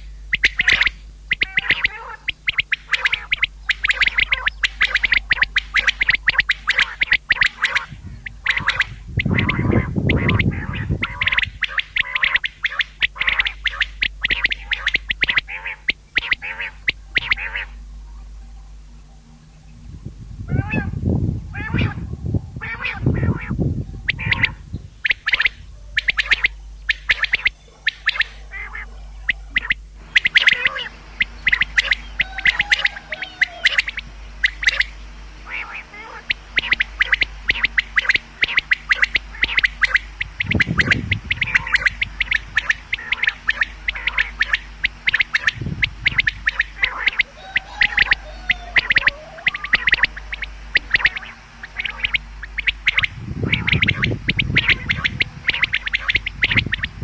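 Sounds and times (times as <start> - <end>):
faint low hum: 0.0 - 57.0
quail chirping: 0.0 - 57.0.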